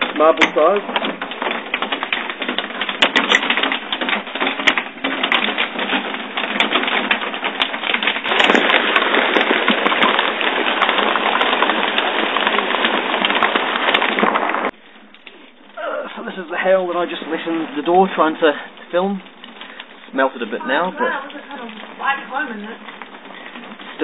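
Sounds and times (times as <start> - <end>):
hail pelting down: 0.0 - 24.0.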